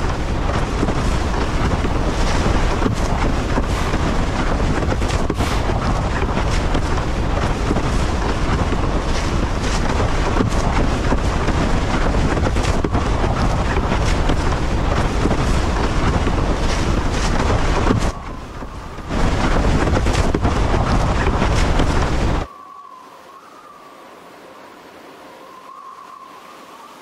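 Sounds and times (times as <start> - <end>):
surf breaking: 0.0 - 22.5
wind rushing: 0.0 - 22.5
wind rumble on microphone: 0.0 - 22.6.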